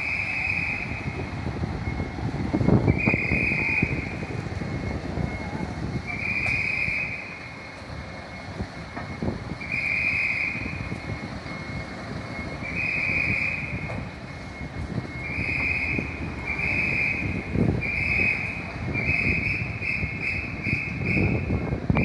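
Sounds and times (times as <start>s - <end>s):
high-pitched warning beep: 0.0s - 22.0s
low engine rumble: 0.0s - 22.0s.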